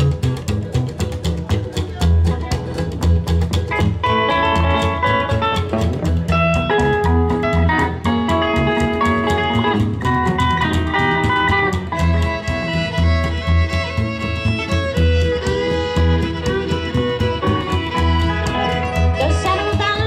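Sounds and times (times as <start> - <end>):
electric guitar: 0.0 - 20.0
fiddle: 0.0 - 20.0
upright bass beat: 0.0 - 20.0.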